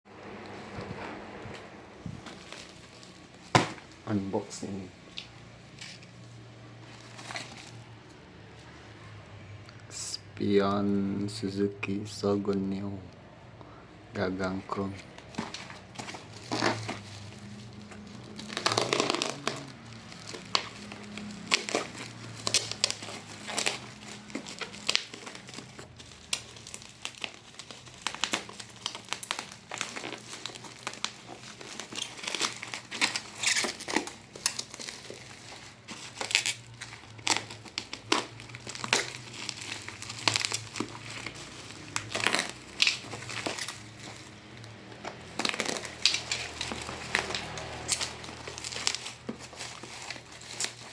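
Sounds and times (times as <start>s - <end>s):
packaging crinkling: 0.3s - 8.2s, 13.7s - 50.9s.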